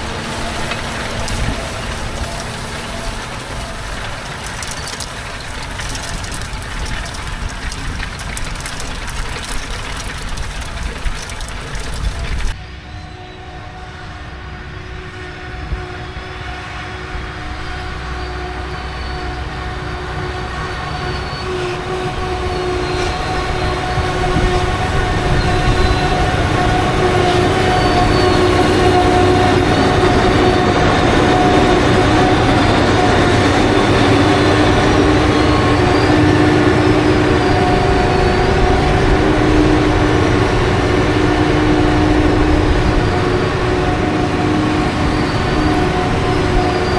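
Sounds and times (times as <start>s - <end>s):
diesel farm machine running: 0.0s - 12.6s, 18.0s - 46.9s.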